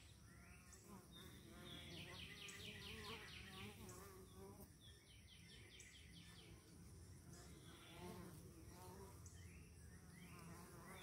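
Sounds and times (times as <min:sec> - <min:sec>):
honeybees buzzing faintly: 0:00.0 - 0:11.0.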